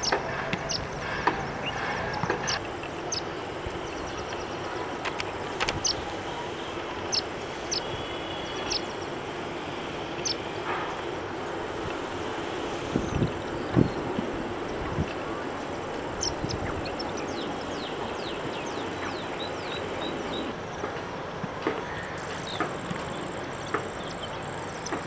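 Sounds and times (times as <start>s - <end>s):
birds peeping: 0.0s - 20.9s, 21.8s - 25.0s.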